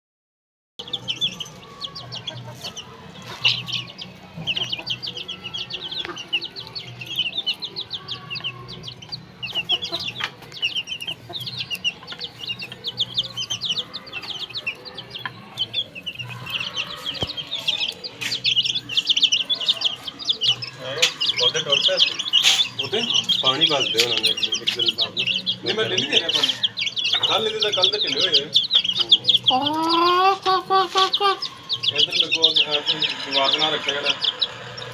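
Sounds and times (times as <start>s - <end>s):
chicks peeping: 0.8s - 34.9s
hens clucking: 0.9s - 34.9s.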